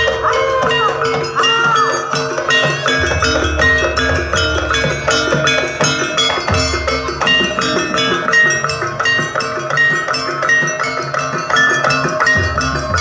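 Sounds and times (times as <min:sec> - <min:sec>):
gamelan gongs and metal bars: 0:00.0 - 0:13.0.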